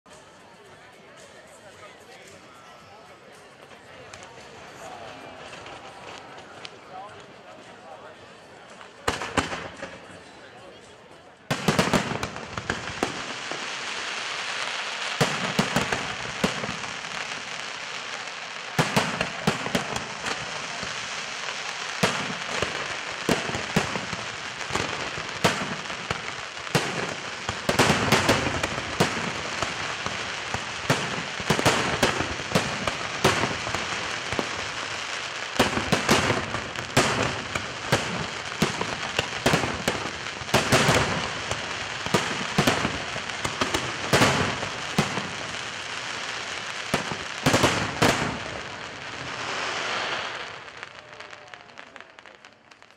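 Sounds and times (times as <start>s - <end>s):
fireworks crackle: 0.1s - 52.9s.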